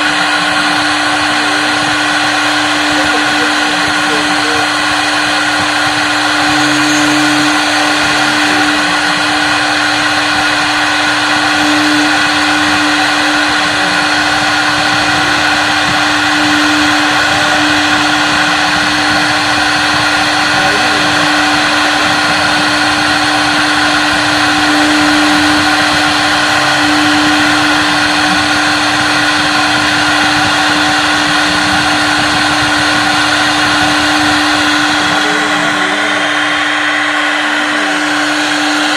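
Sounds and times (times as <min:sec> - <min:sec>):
bit cutting wood: 0:00.0 - 0:38.9
router spindle whine: 0:00.0 - 0:38.9.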